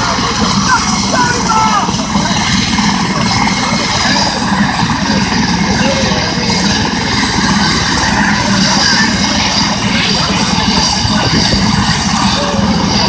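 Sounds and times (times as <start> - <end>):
helicopter rotor chop: 0.0 - 13.0
high turbine whine: 0.0 - 13.0.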